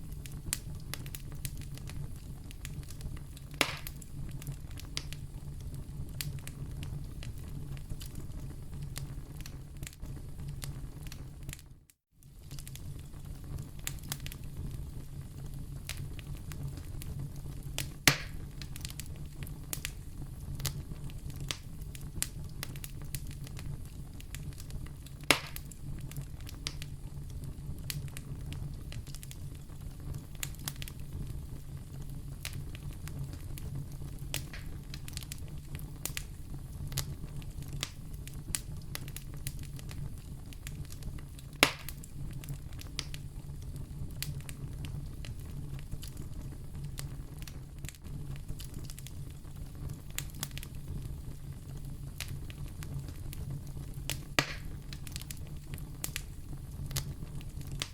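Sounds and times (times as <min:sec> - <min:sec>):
loud fire pops: 0:00.0 - 0:11.6, 0:12.3 - 0:57.9
wood fire crackling: 0:00.0 - 0:57.9.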